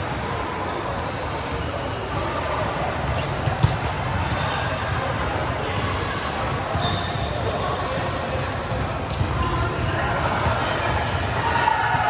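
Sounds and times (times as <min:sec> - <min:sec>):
players' voices: 0:00.0 - 0:12.0.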